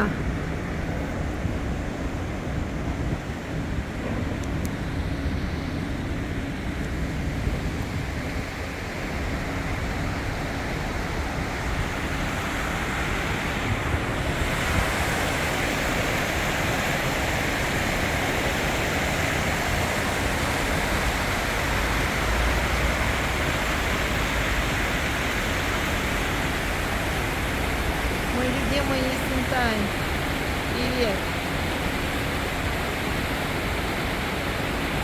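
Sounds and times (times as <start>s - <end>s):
rushing water over cascades: 0.0s - 35.0s.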